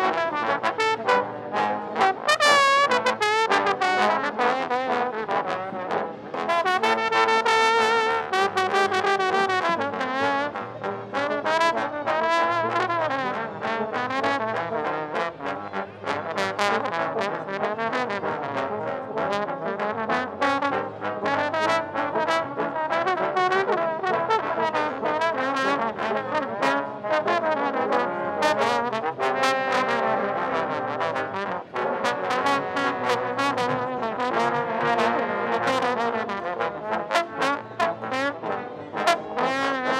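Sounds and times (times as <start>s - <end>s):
trombone playing quick notes: 0.0s - 39.9s.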